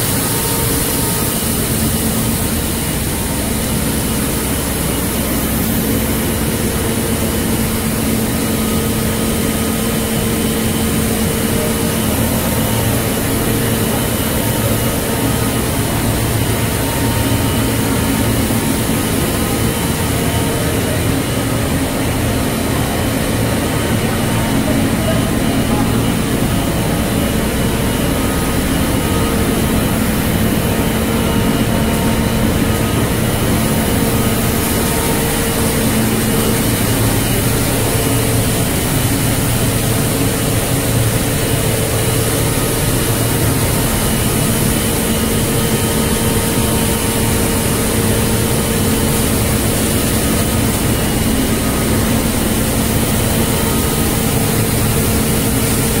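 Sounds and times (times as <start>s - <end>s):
machinery drone with hiss: 0.0s - 56.0s.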